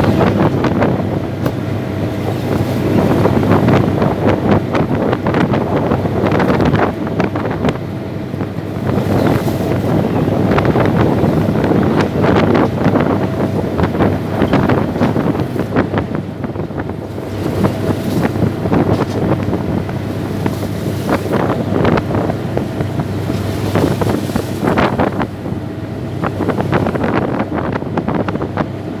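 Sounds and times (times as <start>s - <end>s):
boat engine humming: 0.0s - 29.0s
moving water: 0.0s - 29.0s
wind buffeting microphone: 0.0s - 29.0s.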